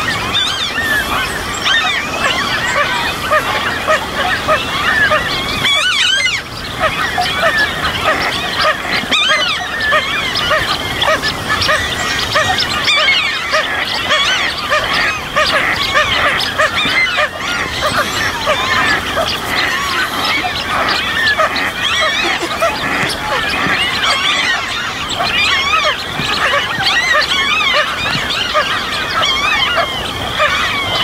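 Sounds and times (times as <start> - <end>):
birds singing: 0.0 - 31.0
frogs calling: 0.0 - 31.0.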